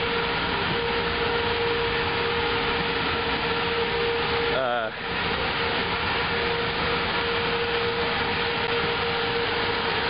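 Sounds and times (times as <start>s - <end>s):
standing train drone: 0.0s - 10.0s.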